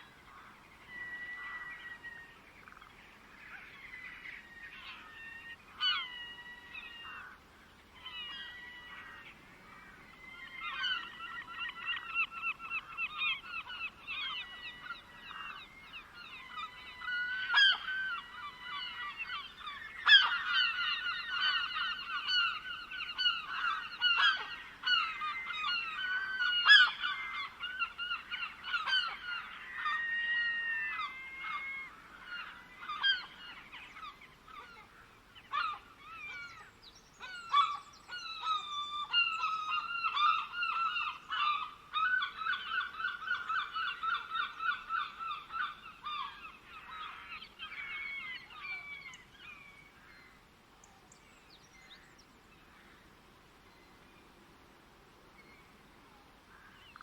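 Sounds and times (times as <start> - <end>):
birds calling and chattering: 0.0 - 54.5, 55.3 - 57.0.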